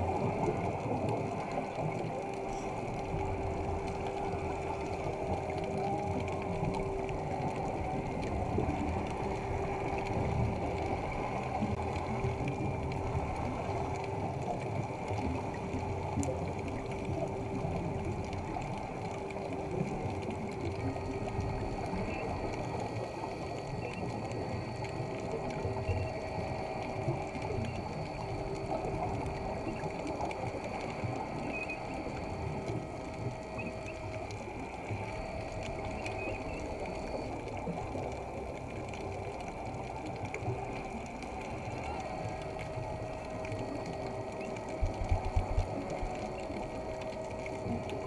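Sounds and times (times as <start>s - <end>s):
low bubbling: 0.0s - 48.0s
underwater mechanical whirring: 0.0s - 48.0s.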